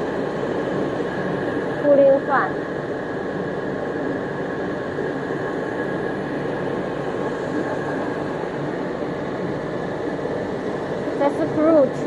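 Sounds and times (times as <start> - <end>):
cooling blower rushing hiss: 0.0 - 12.0
faint steady whine: 0.0 - 12.0.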